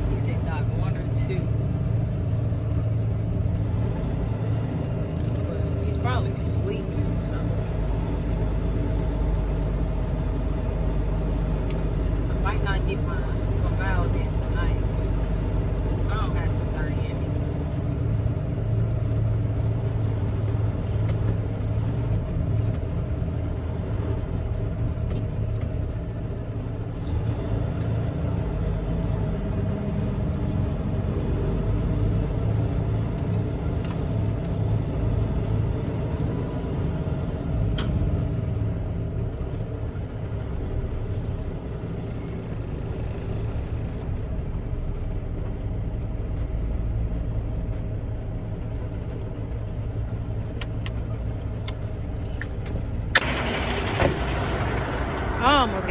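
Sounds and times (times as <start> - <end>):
diesel truck engine droning: 0.0 - 55.9.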